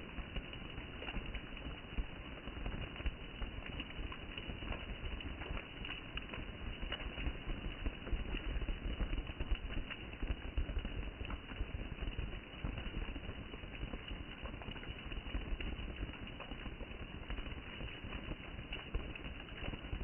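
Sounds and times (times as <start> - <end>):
rain falling steadily: 0.0 - 20.0.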